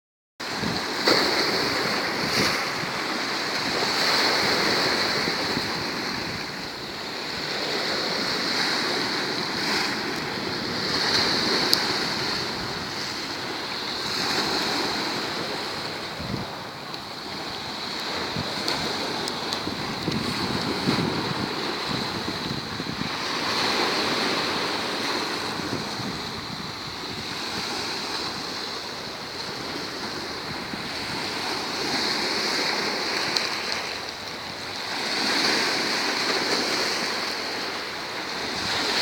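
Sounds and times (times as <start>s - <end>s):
wind buffeting microphone: 0.4s - 36.7s
surf breaking on shore: 0.4s - 39.0s.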